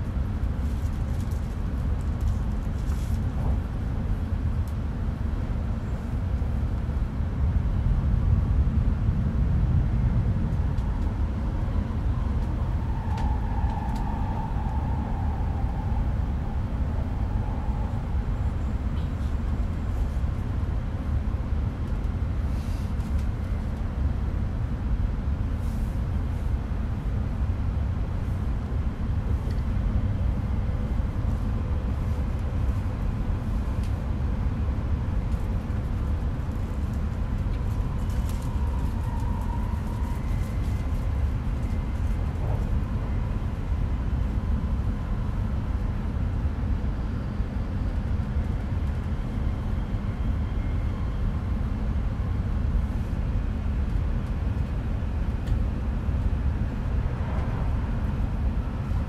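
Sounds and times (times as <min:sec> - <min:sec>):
high speed train rumble: 0:00.0 - 0:59.0.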